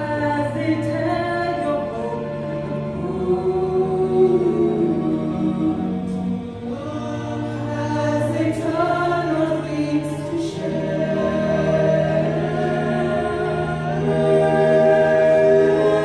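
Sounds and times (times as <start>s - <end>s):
women singing in harmony: 0.0s - 16.0s.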